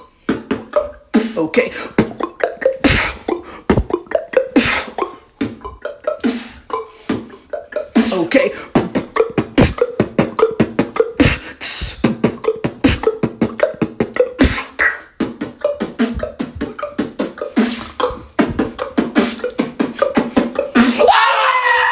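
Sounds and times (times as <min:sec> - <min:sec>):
beatboxing mouth clicks and pops: 0:00.0 - 0:21.1
hissy beatbox strokes: 0:00.0 - 0:21.1.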